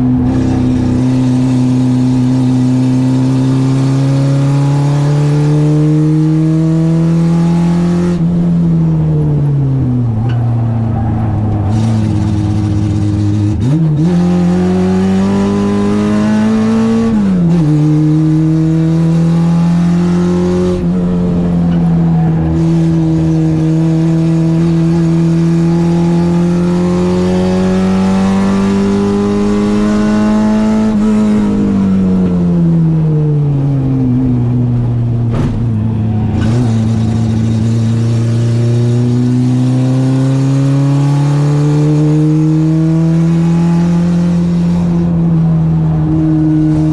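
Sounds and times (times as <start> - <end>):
car engine revving hard: 0.0 - 8.7, 11.2 - 32.8, 35.3 - 46.9.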